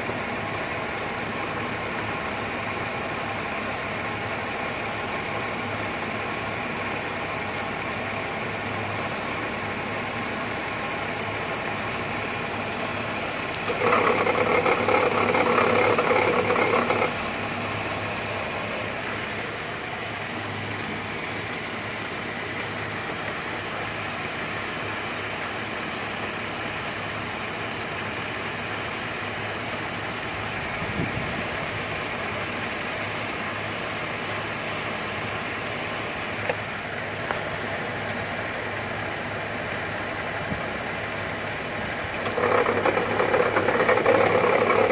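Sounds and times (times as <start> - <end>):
car engine idling with rattle: 0.0 - 44.9.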